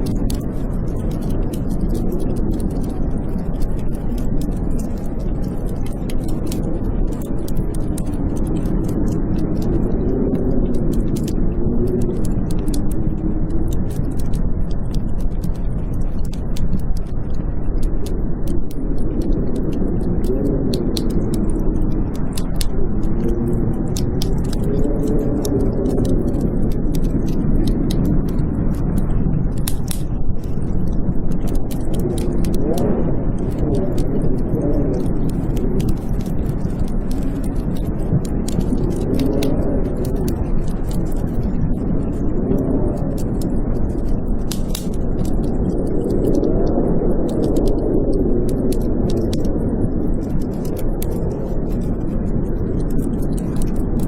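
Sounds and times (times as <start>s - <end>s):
blizzard wind howling: 0.0s - 54.0s
wood fire crackling: 0.0s - 54.0s.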